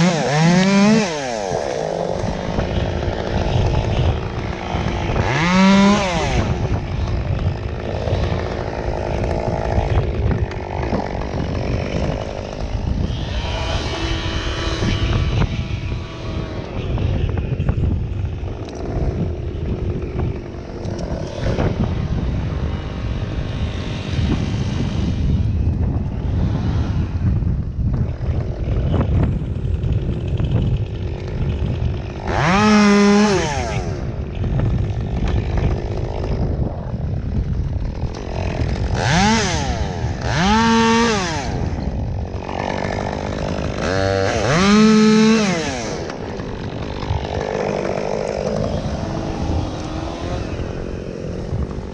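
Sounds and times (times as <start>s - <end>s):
chainsaw engine revving: 0.0s - 51.9s.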